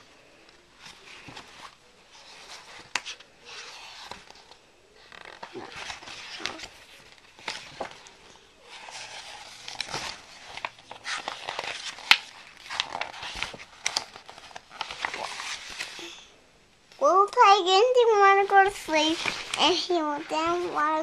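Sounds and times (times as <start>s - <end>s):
paper pages rustling: 0.0s - 16.2s, 18.4s - 21.0s.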